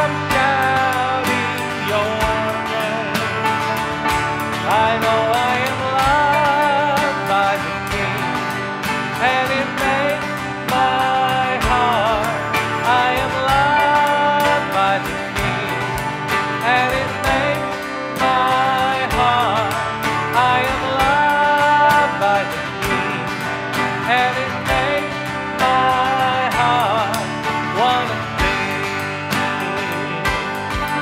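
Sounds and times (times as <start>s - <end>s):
acoustic guitar: 0.0s - 31.0s
drums keeping a beat: 0.0s - 31.0s
electric bass: 0.0s - 31.0s
person singing: 0.0s - 31.0s
piano: 0.0s - 31.0s.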